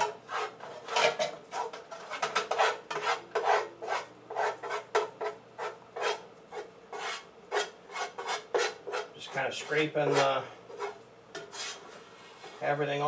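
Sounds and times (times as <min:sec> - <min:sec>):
utensil scraping a pan: 0:00.0 - 0:13.0.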